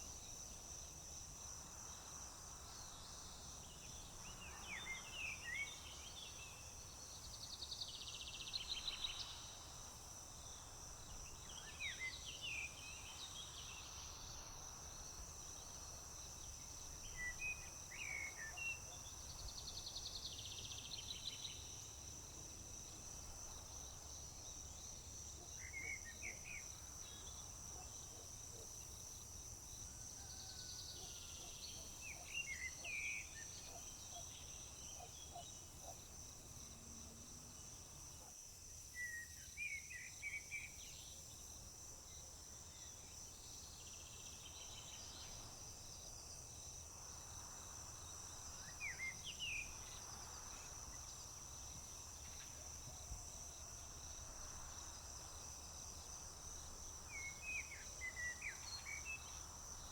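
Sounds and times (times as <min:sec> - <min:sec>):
crickets trilling: 0:08.9 - 0:59.9.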